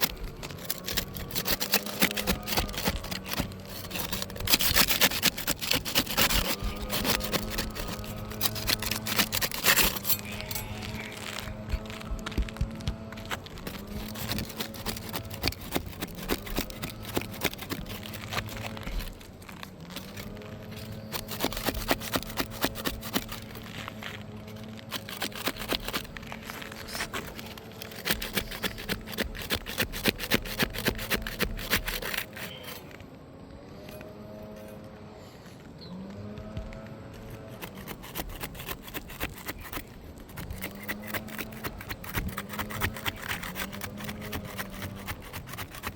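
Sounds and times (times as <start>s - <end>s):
roof shingles crackling and scraping: 0.0s - 45.9s.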